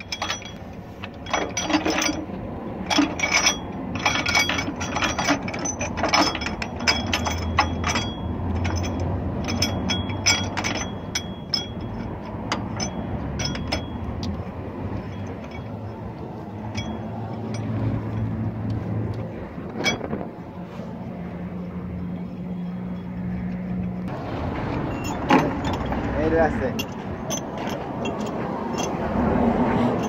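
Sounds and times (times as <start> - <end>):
tools and metal parts clinking: 0.0 - 20.4, 21.6 - 24.1, 24.7 - 29.2, 29.8 - 30.0.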